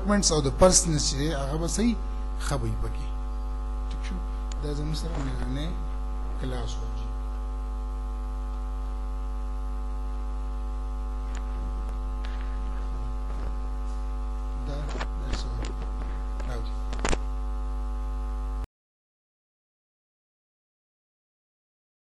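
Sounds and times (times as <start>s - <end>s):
electrical mains hum: 0.0s - 18.7s.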